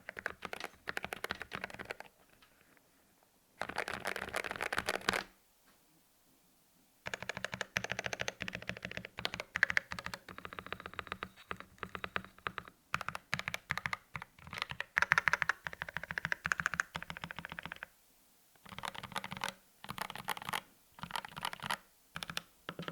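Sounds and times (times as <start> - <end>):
rapid mechanical keyboard typing: 0.0 - 2.1, 3.6 - 5.3, 7.1 - 17.9, 18.6 - 22.9.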